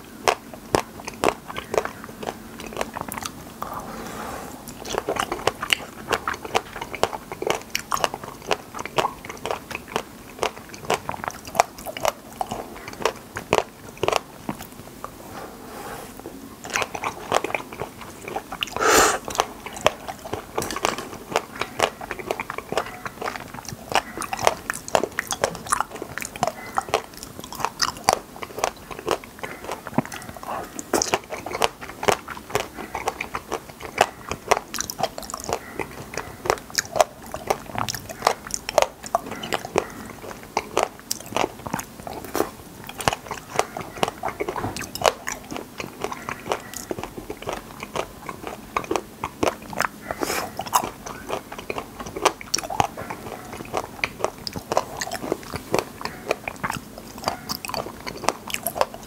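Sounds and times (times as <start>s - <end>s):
close chewing of raspberries: 0.0s - 59.0s.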